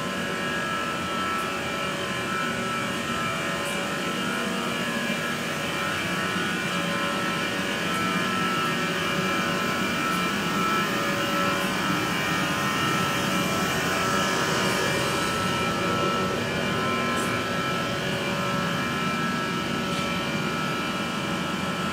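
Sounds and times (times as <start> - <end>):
steady mechanical hum: 0.0 - 21.9.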